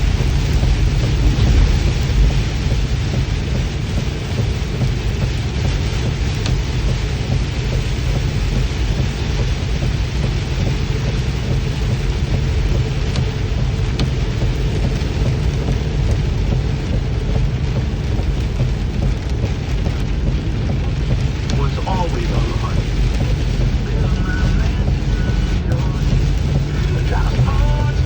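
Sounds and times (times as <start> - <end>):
deep rumble: 0.0 - 28.0
heavy rain falling: 0.0 - 28.0
drop ticks: 0.2 - 28.0.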